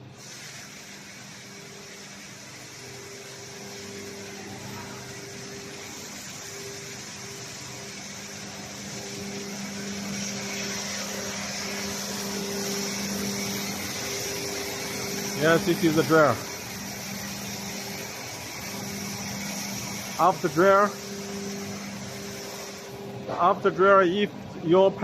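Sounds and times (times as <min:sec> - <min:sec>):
industrial dryer fans humming: 0:00.0 - 0:25.0.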